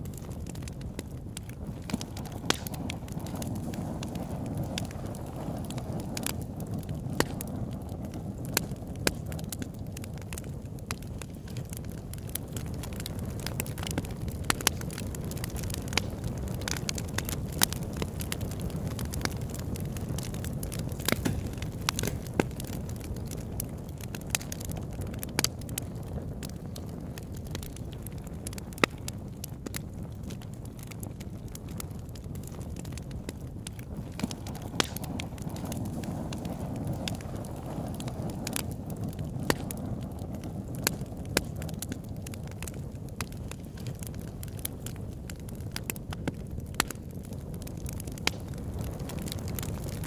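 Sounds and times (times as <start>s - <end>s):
campfire flames rushing: 0.0s - 50.0s
fire crackles and pops: 0.0s - 50.0s.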